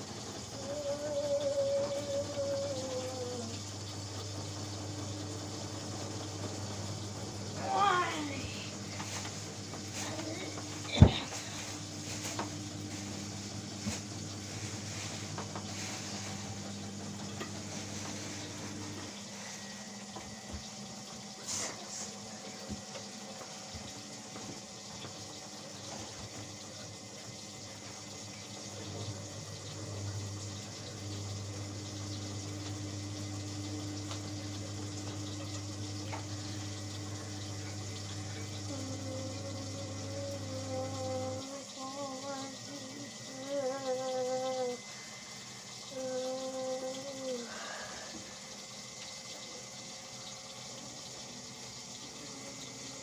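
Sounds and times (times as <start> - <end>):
low machine hum: 0.0 - 53.0
water hissing into washing machine: 0.0 - 53.0.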